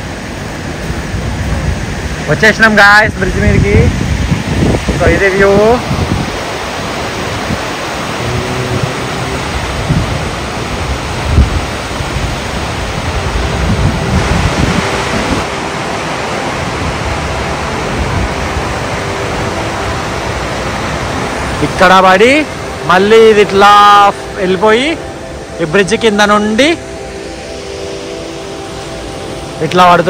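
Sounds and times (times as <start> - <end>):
waterfall rushing into pool: 0.0 - 30.0.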